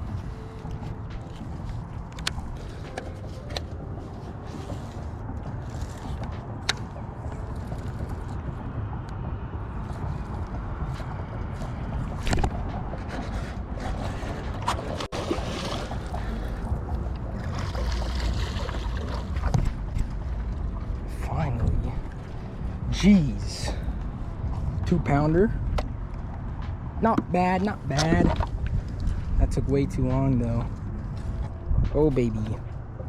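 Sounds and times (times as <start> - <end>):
water around a boat: 0.0 - 33.0
wind: 0.0 - 33.0.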